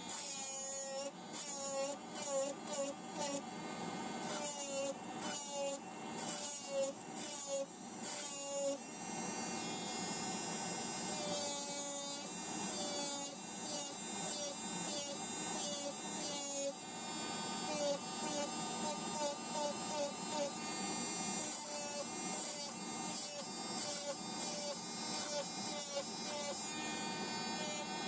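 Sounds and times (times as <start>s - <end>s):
electric nail drill whining: 0.0s - 3.4s, 4.2s - 28.0s.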